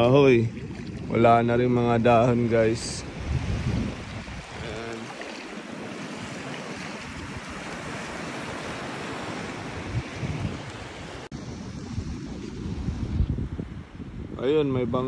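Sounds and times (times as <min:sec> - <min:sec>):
small waves washing onto shore: 0:00.0 - 0:15.0
wind bumping microphone: 0:00.0 - 0:15.0.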